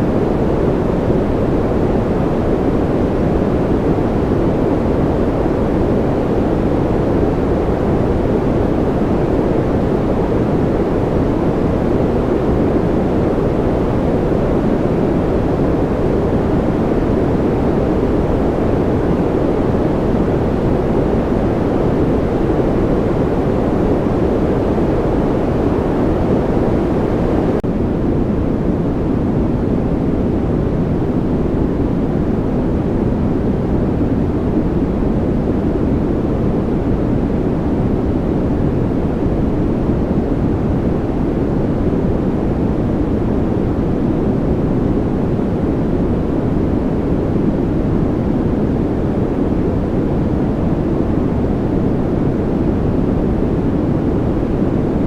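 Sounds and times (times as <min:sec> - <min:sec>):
deep white noise: 0:00.0 - 0:55.0.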